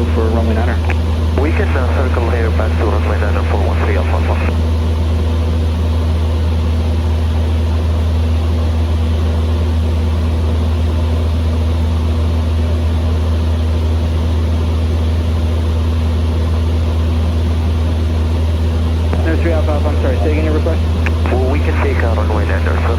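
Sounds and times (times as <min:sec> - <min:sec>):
small plane engine droning: 0:00.0 - 0:22.9.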